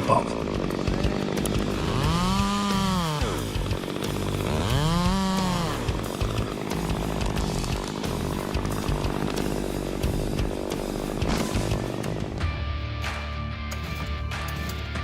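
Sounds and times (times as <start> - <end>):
chainsaw engine revving: 0.0 - 12.6.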